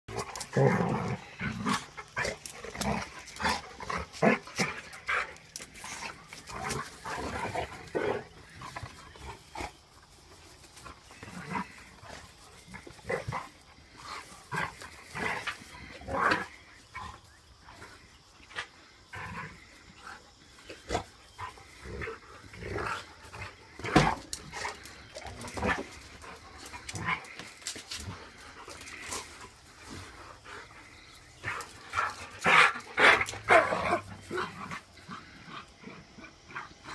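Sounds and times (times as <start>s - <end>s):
dogs growling: 0.1s - 36.9s.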